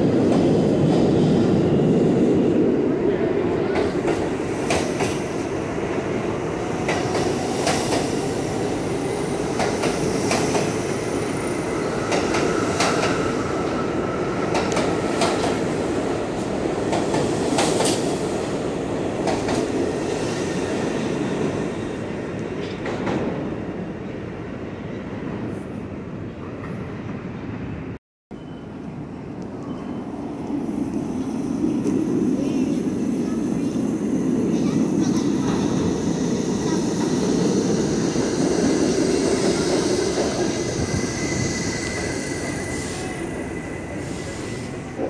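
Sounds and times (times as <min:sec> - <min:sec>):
subway train rumble: 0:00.0 - 0:45.0.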